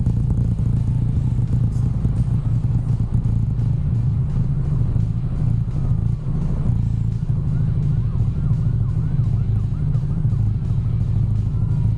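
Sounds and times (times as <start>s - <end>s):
scooter engine running: 0.0s - 11.9s
wind and road noise: 0.0s - 11.9s.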